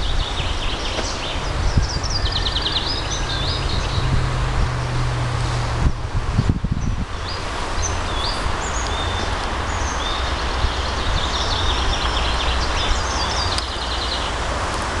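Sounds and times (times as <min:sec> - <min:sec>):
songbirds singing: 0:00.0 - 0:05.3, 0:06.3 - 0:14.9
leaves rustling in wind: 0:00.0 - 0:15.0.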